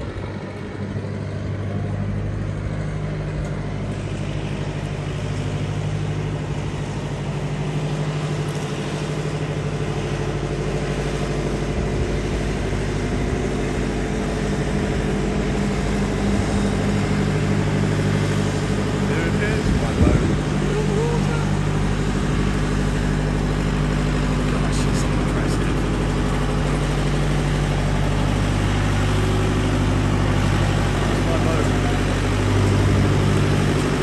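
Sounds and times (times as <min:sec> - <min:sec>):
boat hoist engine running: 0:00.0 - 0:34.0.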